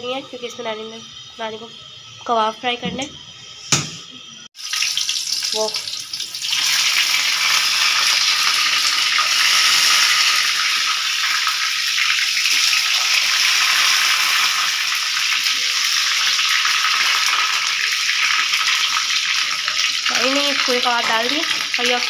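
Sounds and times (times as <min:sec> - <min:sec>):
patties sizzling in oil: 0:00.0 - 0:02.8, 0:04.5 - 0:22.0.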